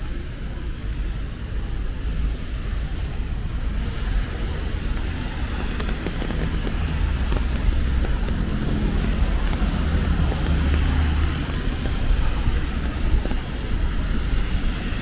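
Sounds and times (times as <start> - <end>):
continuous hiss of wet road: 0.0 - 15.0
engine hum: 0.0 - 15.0
vehicles passing with low rumble: 0.0 - 15.0.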